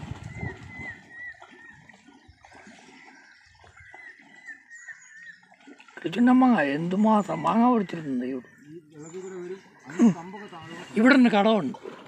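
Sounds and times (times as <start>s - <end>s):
water lapping around canoe: 0.0s - 12.0s
bird chirping: 0.3s - 5.7s, 6.6s - 11.2s.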